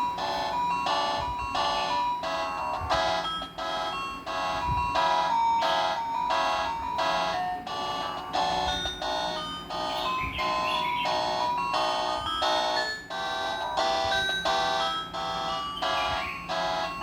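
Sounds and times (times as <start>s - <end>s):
phone ringtone melody: 0.0s - 17.0s.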